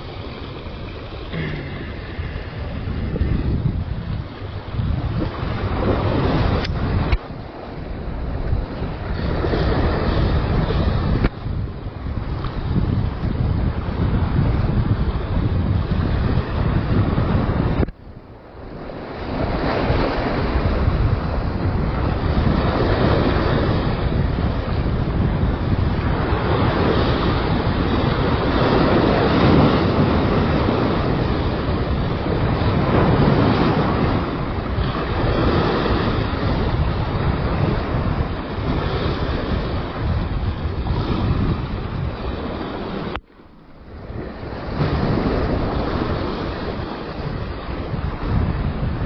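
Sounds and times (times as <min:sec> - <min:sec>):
waves washing against rocks: 0:00.0 - 0:49.0
wind buffeting microphone: 0:00.0 - 0:49.0.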